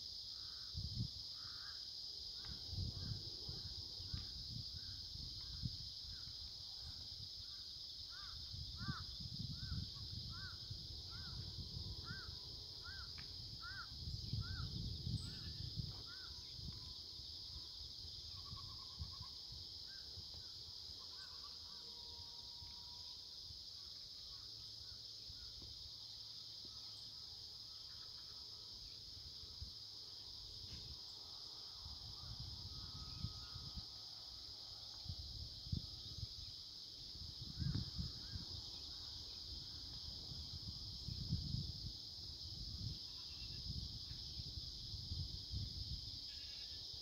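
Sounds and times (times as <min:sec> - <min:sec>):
high insect chorus: 0:00.0 - 0:47.0.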